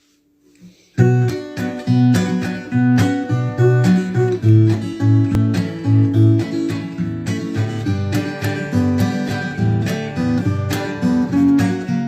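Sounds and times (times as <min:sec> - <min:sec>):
acoustic guitar strumming: 0:01.0 - 0:12.0.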